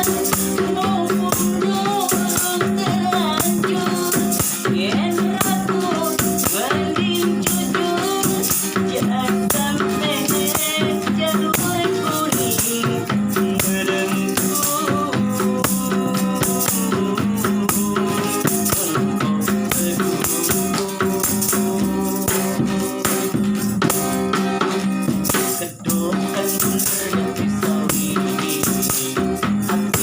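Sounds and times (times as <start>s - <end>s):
instrumental accompaniment: 0.0s - 30.0s
shaker rattle beat: 0.0s - 30.0s.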